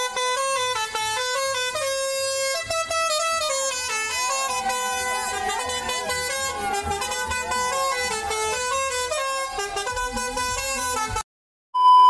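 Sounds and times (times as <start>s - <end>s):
musical truck horn: 0.0s - 11.2s.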